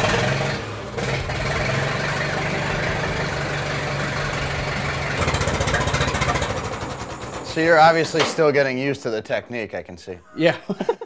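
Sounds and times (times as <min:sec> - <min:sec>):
tractor engine running: 0:00.0 - 0:09.4.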